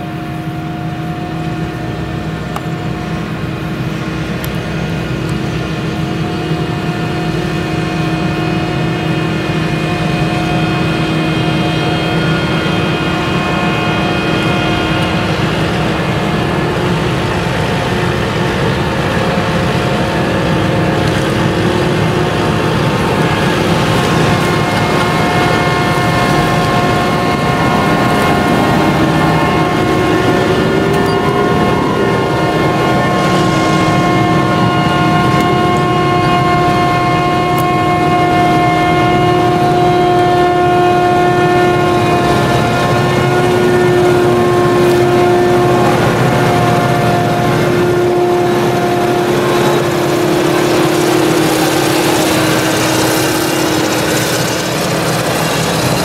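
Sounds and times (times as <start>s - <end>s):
harvester engine drone: 0.0s - 56.0s
machine whine: 0.0s - 56.0s.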